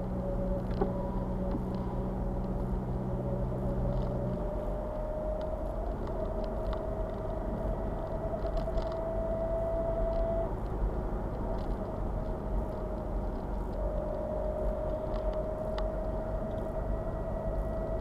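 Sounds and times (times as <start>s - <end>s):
diesel car rumble: 0.0s - 18.0s.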